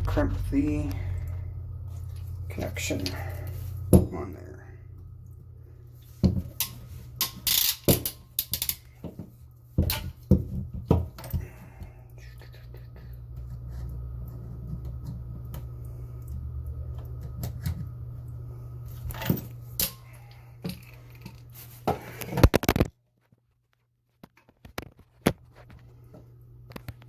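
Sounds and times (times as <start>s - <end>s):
steady low hum: 0.0s - 22.8s.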